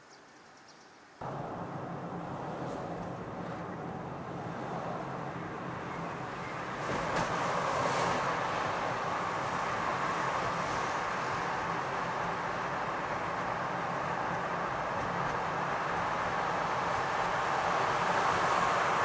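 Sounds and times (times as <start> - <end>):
vehicle running noise: 1.2 - 19.0.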